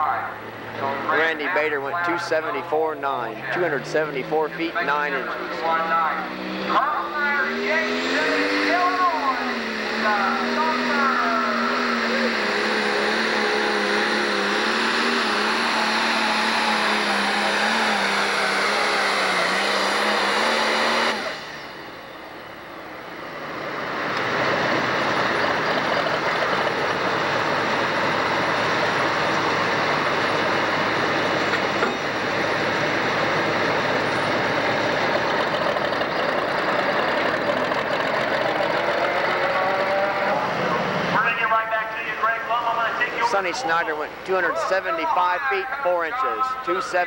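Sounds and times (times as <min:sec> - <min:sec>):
tractor engine at full throttle: 0:00.0 - 0:47.0
tractor engine running flat out: 0:00.0 - 0:47.0.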